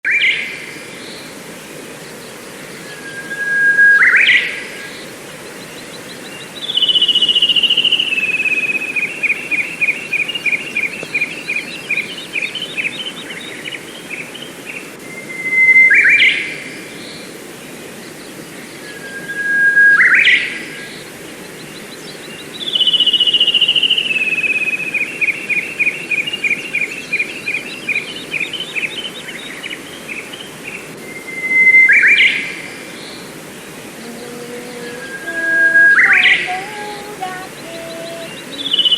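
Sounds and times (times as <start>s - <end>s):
songbird singing: 0.0s - 38.9s
steady background hiss: 0.1s - 38.9s.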